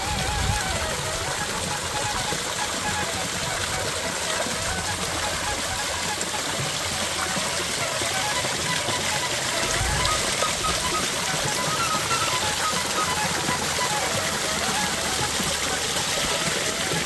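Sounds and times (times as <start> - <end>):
water splashing into a pool: 0.0 - 17.0.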